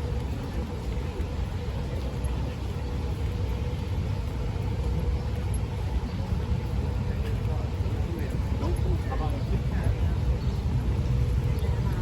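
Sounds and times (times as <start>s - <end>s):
rumble of traffic: 0.0s - 12.0s.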